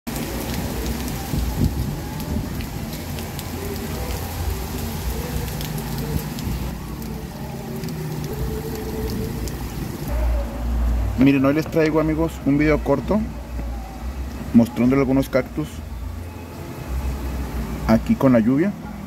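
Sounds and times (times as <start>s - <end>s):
heavy rain on concrete and leaves: 0.0s - 19.0s.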